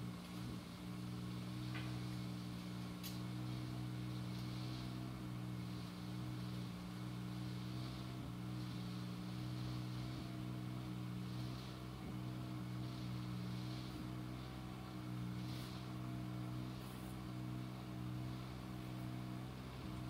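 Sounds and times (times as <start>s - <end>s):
motor running steadily: 0.0s - 20.0s.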